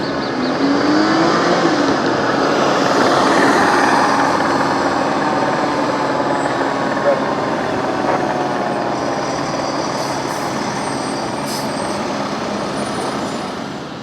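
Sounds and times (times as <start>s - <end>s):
fire engine passing: 0.0s - 14.0s.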